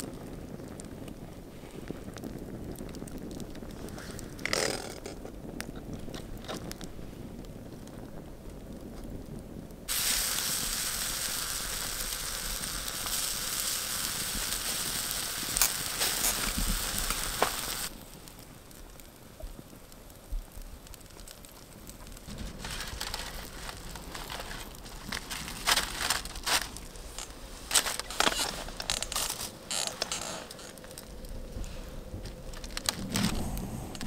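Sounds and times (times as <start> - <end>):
campfire crackling: 0.0 - 34.0
aluminium foil crinkling: 1.5 - 7.0, 9.9 - 34.0.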